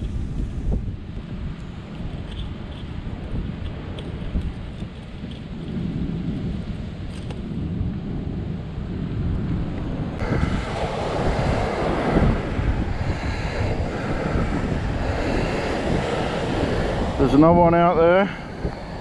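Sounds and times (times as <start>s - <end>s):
surf washing on beach: 0.0s - 19.0s
wind rumbling on microphone: 0.0s - 19.0s.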